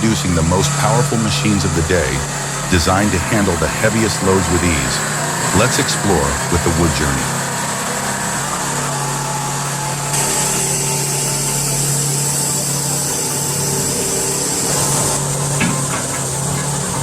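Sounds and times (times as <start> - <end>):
diesel engine droning: 0.0 - 17.0
hiss: 0.0 - 17.0.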